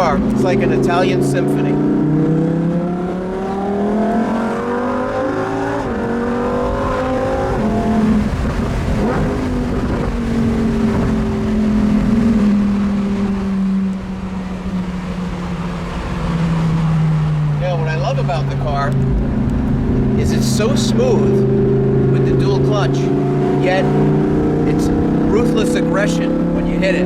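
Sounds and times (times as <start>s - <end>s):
sports car engine revving: 0.0s - 27.0s.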